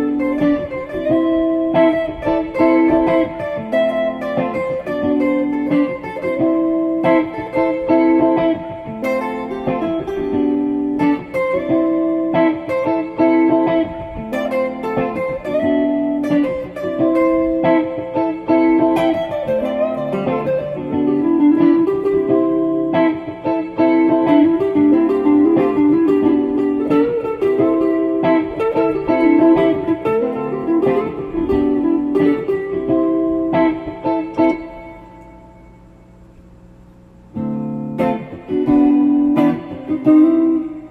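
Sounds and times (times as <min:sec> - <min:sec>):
plucked guitar melody: 0:00.0 - 0:40.9.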